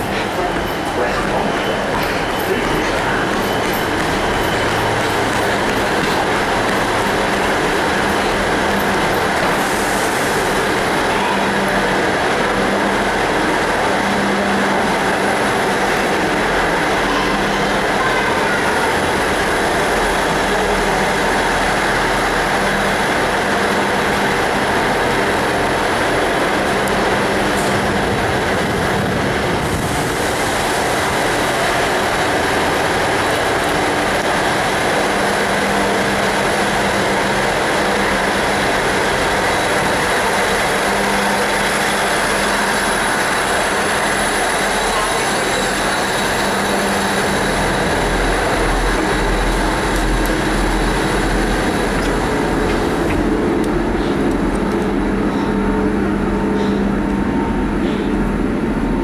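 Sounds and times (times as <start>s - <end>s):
diesel trains running: 0.0s - 59.0s.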